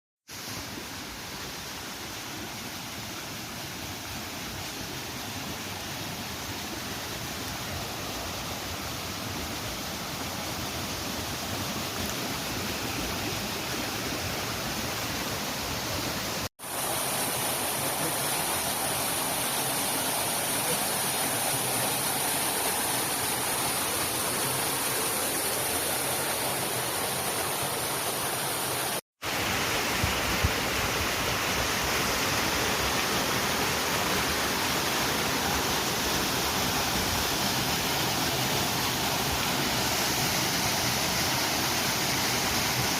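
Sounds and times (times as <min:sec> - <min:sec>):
waterfall rushing roar: 0:03.3 - 0:42.9.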